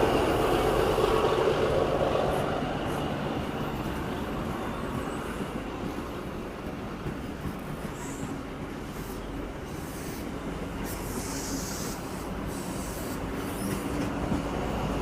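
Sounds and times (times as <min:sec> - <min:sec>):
diesel train engine: 0:00.0 - 0:15.0
train wheels rumbling: 0:00.0 - 0:15.0.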